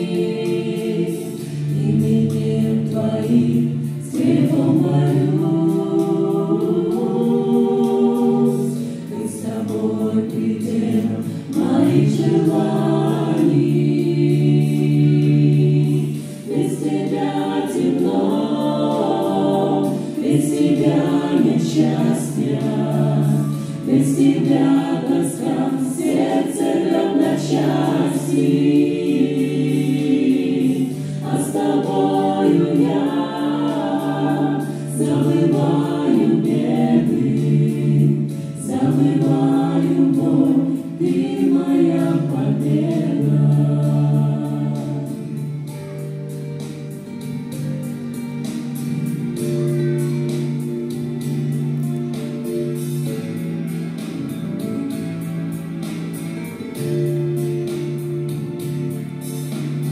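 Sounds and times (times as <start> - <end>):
group singing gospel in harmony: 0.0 - 59.9.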